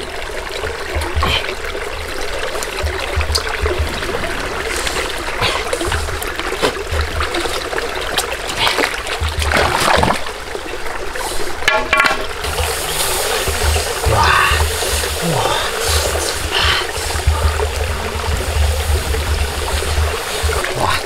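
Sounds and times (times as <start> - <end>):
shallow stream trickling: 0.0 - 21.0.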